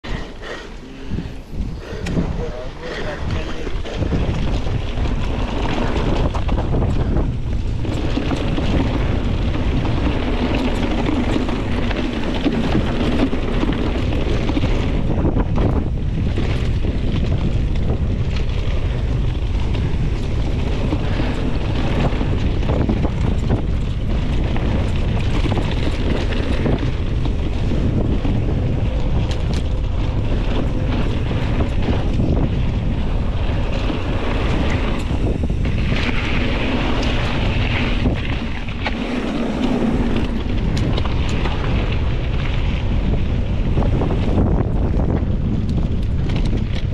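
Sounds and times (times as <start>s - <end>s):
bike tyres rumbling on gravel: 0.0s - 46.9s
wind buffeting microphone: 0.0s - 46.9s
bike rattles and knocks: 1.8s - 46.9s.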